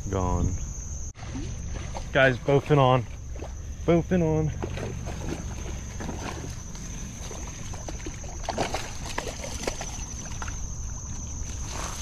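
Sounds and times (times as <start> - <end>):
water splashing: 1.2 - 12.0.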